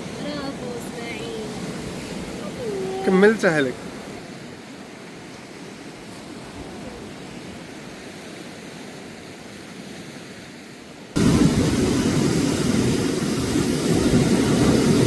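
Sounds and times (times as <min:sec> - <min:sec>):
sea surf hissing: 0:00.0 - 0:09.2, 0:11.2 - 0:15.0.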